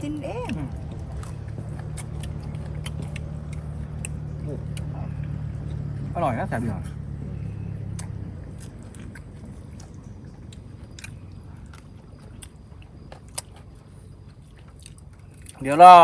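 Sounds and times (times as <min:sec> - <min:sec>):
person chewing and crunching food: 0:00.4 - 0:06.0, 0:07.4 - 0:15.9.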